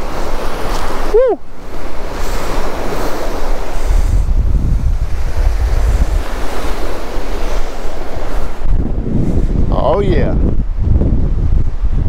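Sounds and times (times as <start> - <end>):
surf breaking: 0.0 - 12.0
wind buffeting microphone: 0.0 - 12.0.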